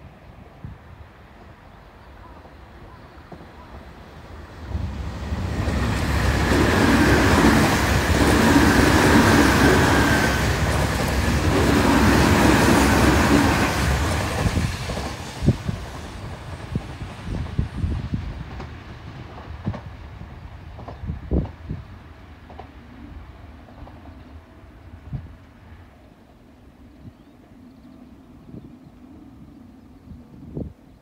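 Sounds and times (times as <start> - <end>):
train wheel and rail noise: 0.0 - 30.9.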